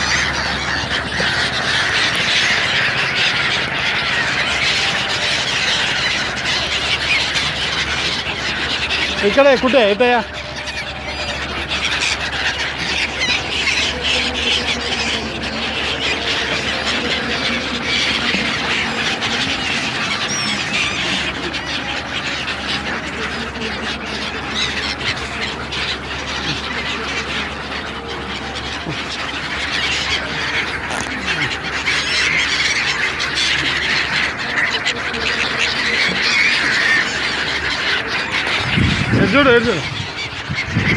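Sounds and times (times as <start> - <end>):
flock of birds squawking: 0.0 - 40.9
steady low hum: 0.0 - 40.9.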